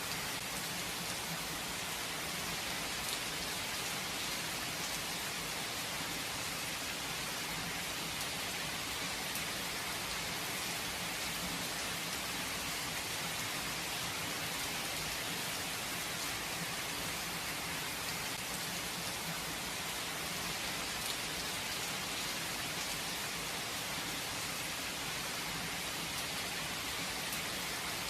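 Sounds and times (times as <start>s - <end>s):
steady rain pattering: 0.0s - 28.0s.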